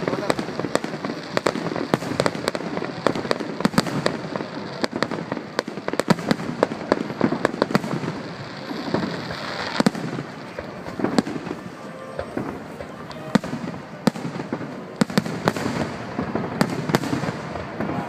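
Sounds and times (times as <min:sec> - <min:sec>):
fireworks bangs and cracks: 0:00.0 - 0:18.0
fireworks crackling: 0:00.0 - 0:18.0.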